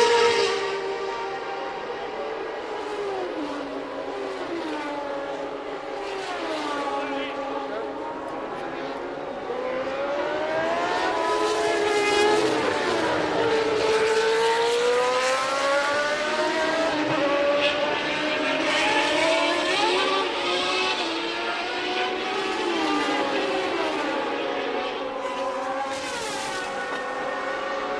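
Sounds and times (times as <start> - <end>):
racing car engines passing: 0.0 - 27.9.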